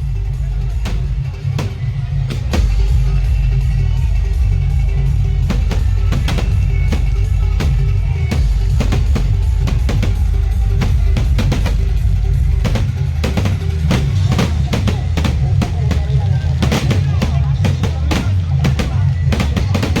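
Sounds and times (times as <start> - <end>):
sharp bangs and cracks: 0.0 - 3.6, 4.3 - 20.0
loud drum-heavy music: 0.0 - 20.0.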